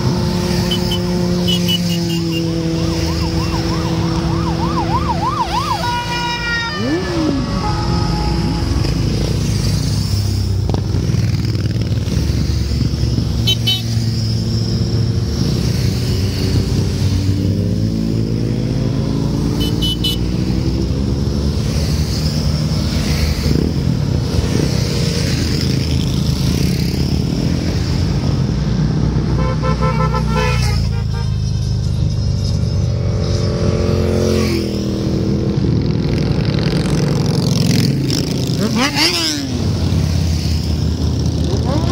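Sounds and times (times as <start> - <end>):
motorcycles riding past: 0.0 - 41.9.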